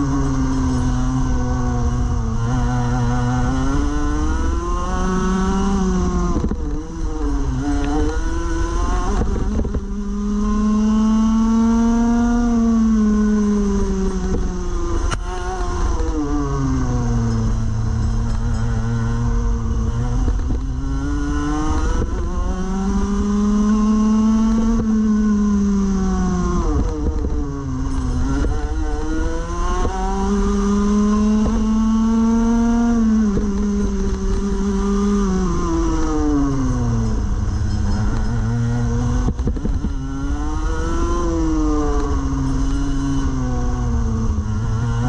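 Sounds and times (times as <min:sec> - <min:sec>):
kart engine revving: 0:00.0 - 0:45.0.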